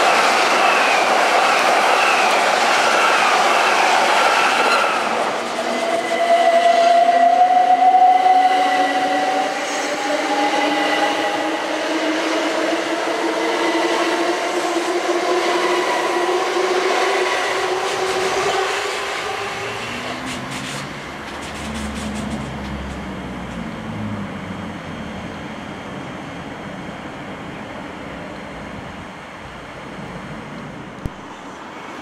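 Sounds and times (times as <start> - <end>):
train wheel noise: 0.0 - 32.0.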